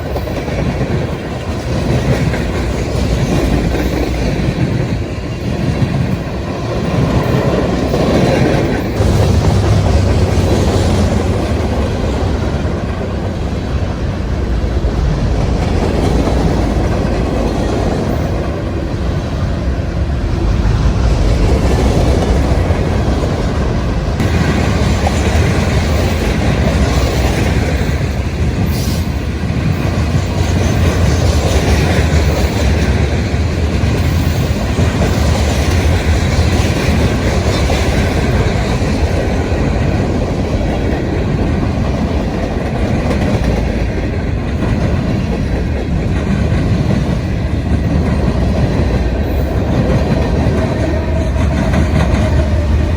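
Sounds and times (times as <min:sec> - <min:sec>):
freight train rumbling past: 0:00.0 - 0:52.9
wheels clacking over rail joints: 0:00.0 - 0:52.9.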